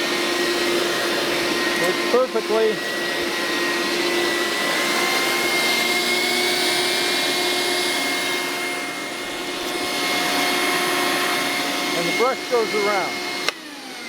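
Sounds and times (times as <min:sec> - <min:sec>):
carpet cleaner motor whine: 0:00.0 - 0:14.0.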